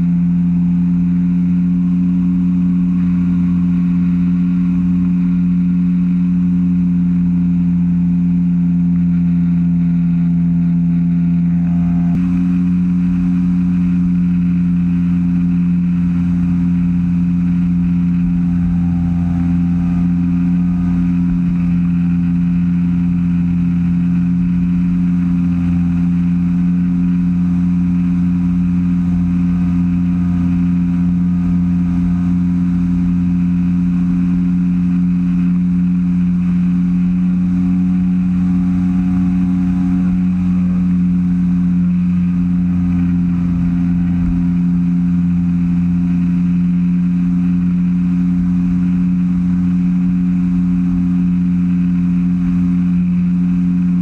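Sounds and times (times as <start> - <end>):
microlight engine drone: 0.0 - 54.0.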